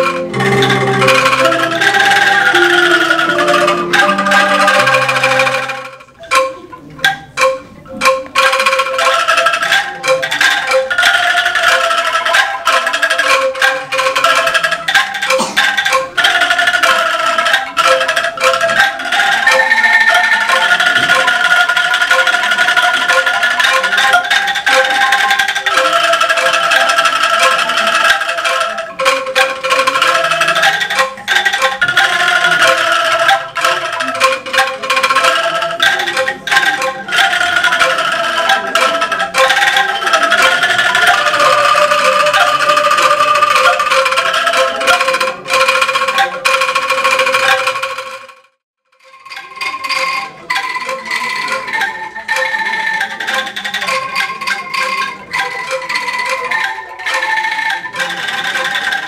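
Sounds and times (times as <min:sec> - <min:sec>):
bamboo angklung ensemble playing: 0:00.0 - 0:59.0.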